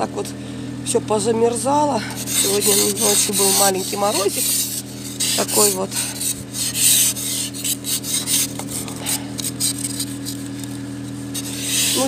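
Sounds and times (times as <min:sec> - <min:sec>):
frost scraped off windshield: 0:02.1 - 0:12.0.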